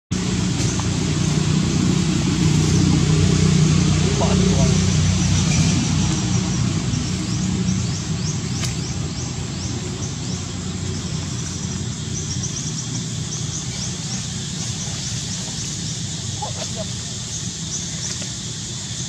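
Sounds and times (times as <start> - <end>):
low rumble: 0.1 - 18.2.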